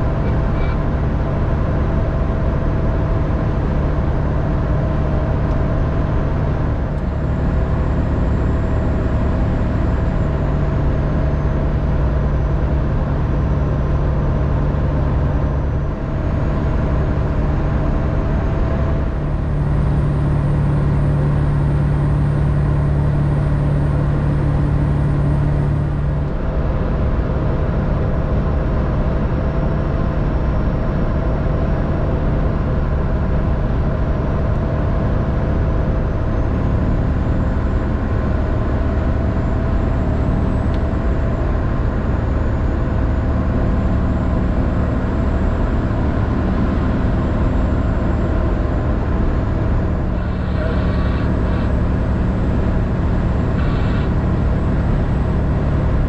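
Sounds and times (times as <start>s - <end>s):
diesel engine cabin drone: 0.0s - 56.0s
tyres on highway: 0.0s - 56.0s.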